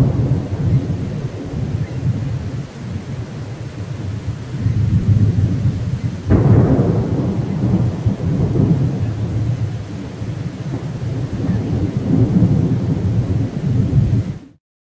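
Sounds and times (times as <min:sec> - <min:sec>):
heavy rain hiss: 0:00.0 - 0:14.6
thunder clap and rumble: 0:00.0 - 0:14.6.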